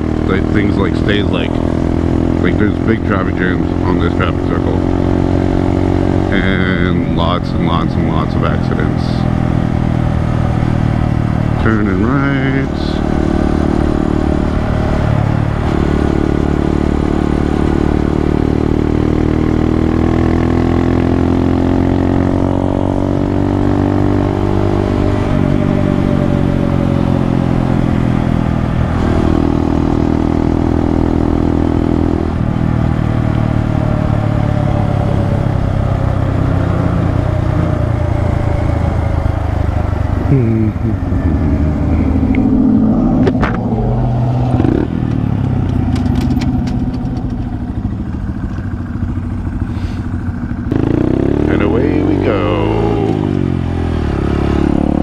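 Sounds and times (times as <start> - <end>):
motorcycle engine changing gears: 0.0 - 55.0.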